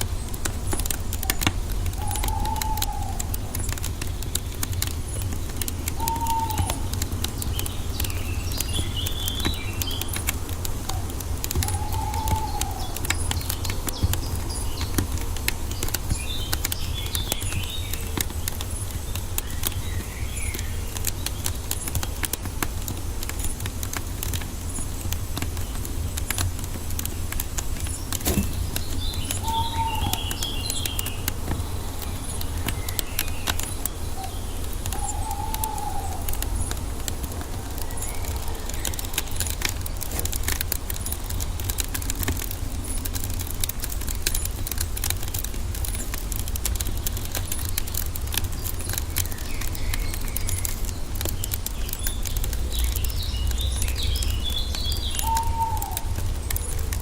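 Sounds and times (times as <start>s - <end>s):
birds chirping: 0.0s - 57.0s
wood fire crackling and popping: 0.0s - 57.0s.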